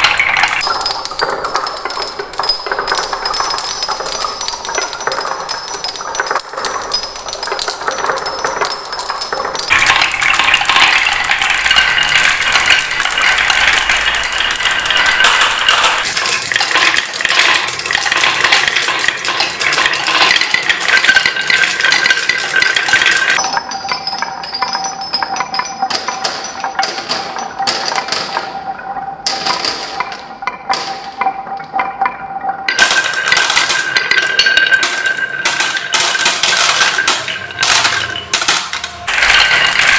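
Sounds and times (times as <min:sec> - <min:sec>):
marbles clattering down track: 0:00.0 - 0:39.9
steady ringing tones: 0:00.0 - 0:39.9.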